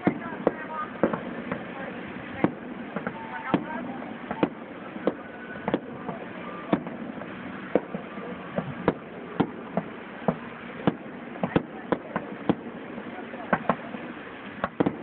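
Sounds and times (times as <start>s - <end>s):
fireworks bursting: 0.0s - 15.0s
steady background noise: 0.0s - 15.0s.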